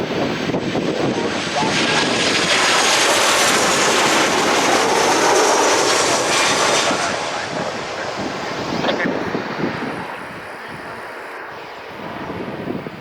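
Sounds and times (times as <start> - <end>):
aircraft engines roaring past: 0.0 - 13.0.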